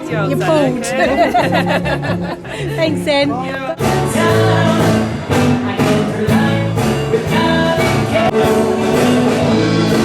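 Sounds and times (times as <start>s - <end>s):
music with steady beat: 0.1s - 10.0s.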